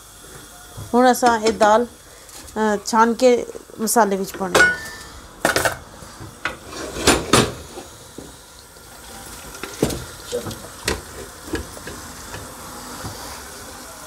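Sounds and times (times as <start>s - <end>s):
sauce sizzling in a pot: 0.0s - 14.0s.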